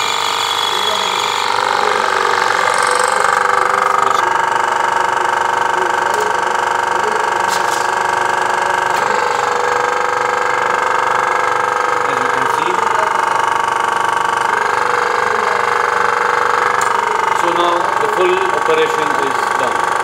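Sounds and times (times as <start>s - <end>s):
injection pump running: 0.0s - 20.0s.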